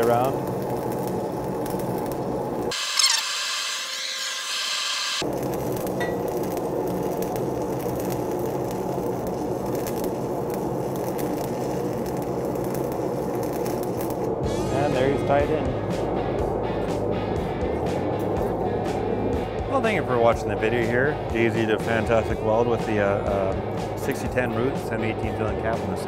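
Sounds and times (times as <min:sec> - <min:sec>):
welding arc crackling: 0:00.0 - 0:16.1, 0:16.8 - 0:25.5.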